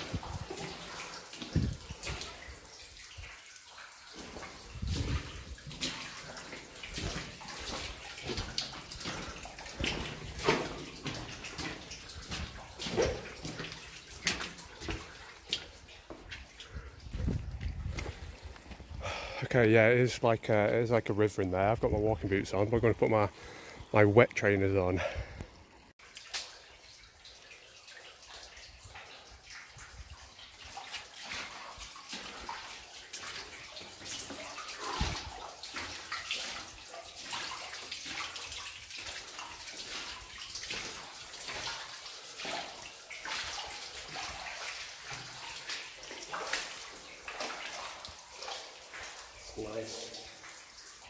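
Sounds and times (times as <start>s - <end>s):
footsteps splashing through water: 0.0s - 19.0s, 26.0s - 27.2s, 28.0s - 51.0s
stream trickling: 0.0s - 51.0s.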